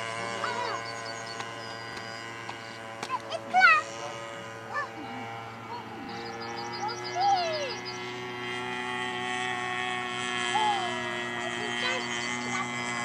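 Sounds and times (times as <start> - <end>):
birds chirping: 0.0 - 9.4, 10.4 - 13.0
model aeroplane motor drone: 0.0 - 13.0.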